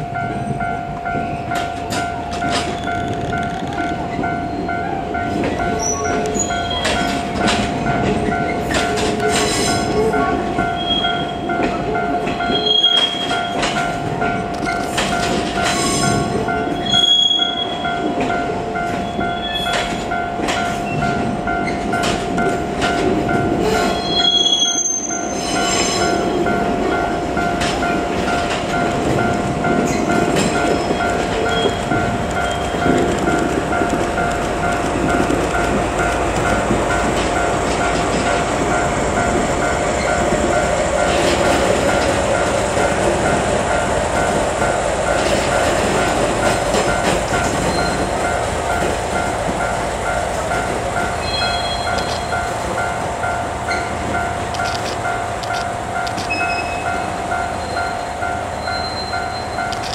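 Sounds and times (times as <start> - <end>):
level crossing warning bell: 0.0 - 59.9
train wheels rumbling and clattering: 0.0 - 59.9.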